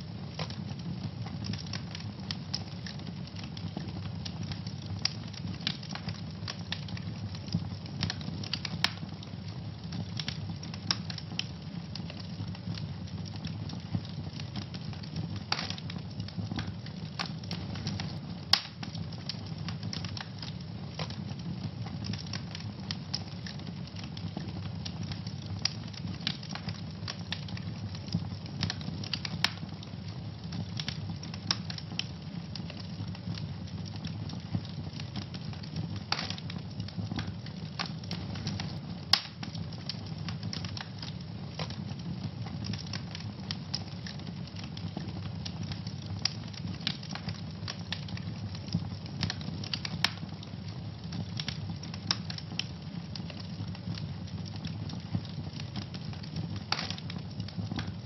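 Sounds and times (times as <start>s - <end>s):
fire flames rumbling: 0.0s - 58.0s
wood fire crackling and popping: 0.0s - 58.0s.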